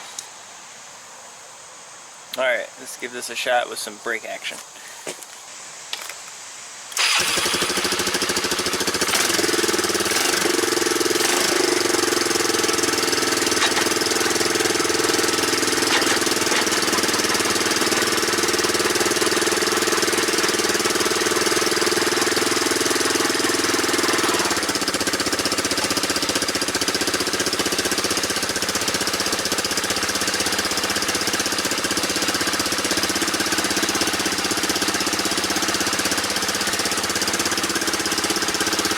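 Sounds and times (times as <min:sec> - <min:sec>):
atv engine running: 0:07.0 - 0:38.9.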